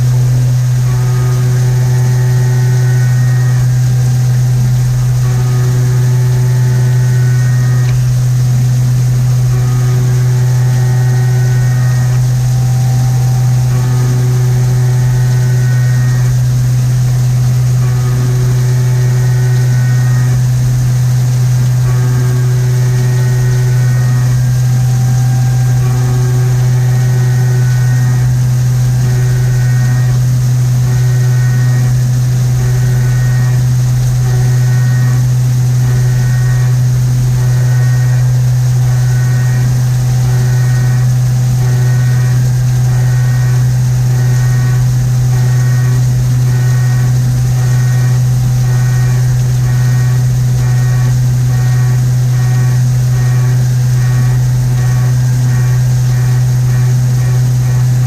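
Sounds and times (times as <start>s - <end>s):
milling machine low hum: 0.0s - 58.0s
motor whine changing speed: 0.0s - 58.0s.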